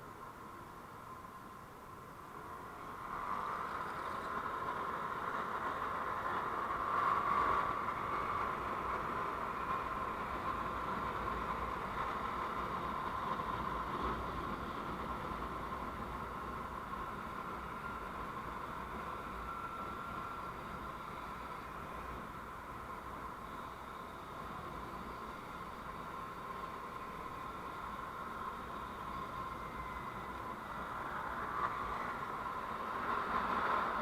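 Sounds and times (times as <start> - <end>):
vehicle road noise: 0.0 - 34.0.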